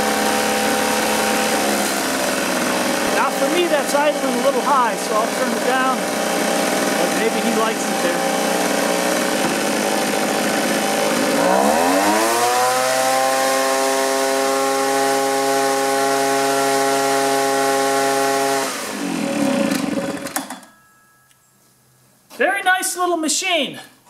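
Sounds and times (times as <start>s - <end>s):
leaf blower engine running: 0.0s - 20.6s.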